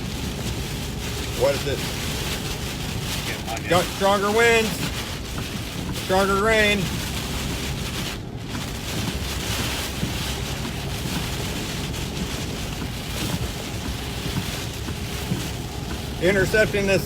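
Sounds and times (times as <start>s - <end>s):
heavy rain hitting vehicle: 0.0s - 17.0s
low road rumble: 0.0s - 17.0s.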